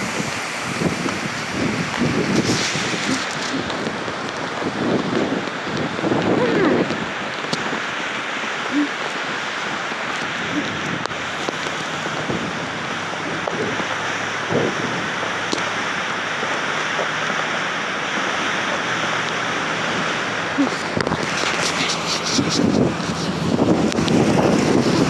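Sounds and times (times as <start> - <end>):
strong wind rushing: 0.0 - 25.0.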